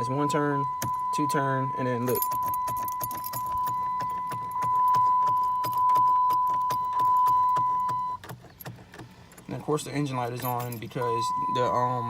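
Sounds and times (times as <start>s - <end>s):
dashboard warning tone: 0.0s - 8.3s, 9.4s - 12.0s.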